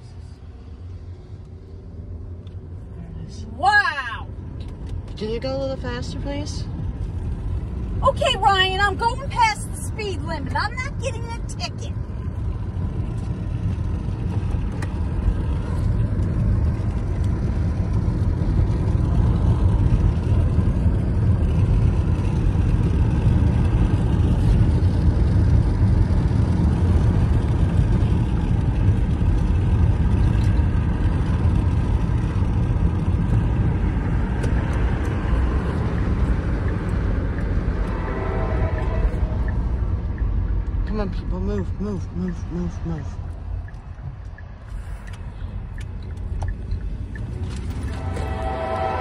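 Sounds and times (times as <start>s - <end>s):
car road and engine rumble: 0.0s - 49.0s.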